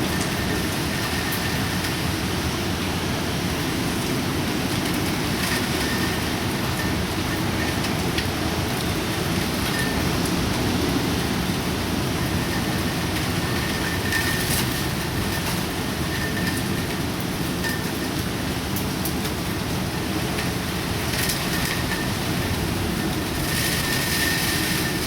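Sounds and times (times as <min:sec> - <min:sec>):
wind and rain rushing: 0:00.0 - 0:25.0.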